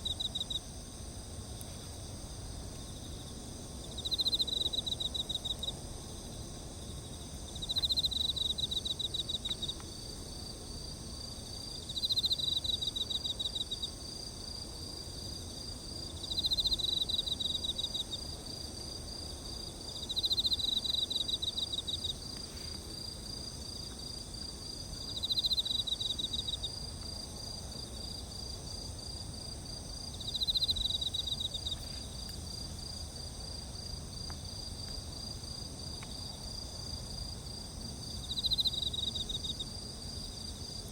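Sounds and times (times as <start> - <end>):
insect pulsed trill: 0.0 - 1.2, 2.9 - 9.8, 10.4 - 22.4, 25.0 - 27.2, 28.0 - 35.7, 36.3 - 40.9.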